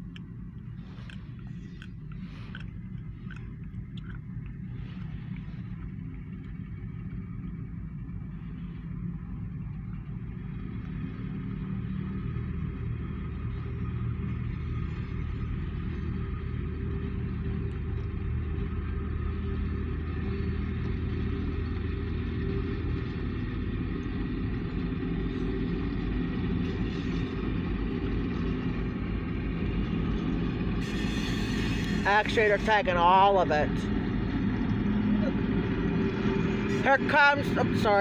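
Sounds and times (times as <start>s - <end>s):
locomotive engine hum: 0.0s - 38.0s
rumble of rolling train: 0.0s - 38.0s.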